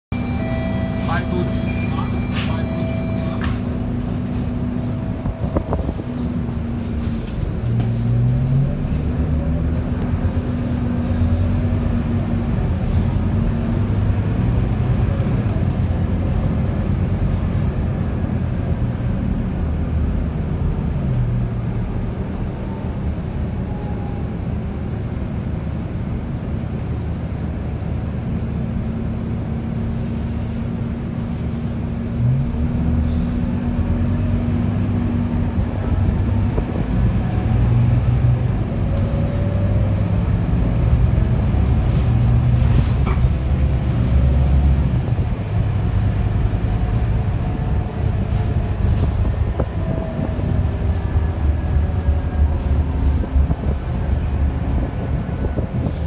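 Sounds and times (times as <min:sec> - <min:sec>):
bus diesel engine running: 0:00.1 - 0:56.0
road and tyre noise: 0:00.1 - 0:56.0.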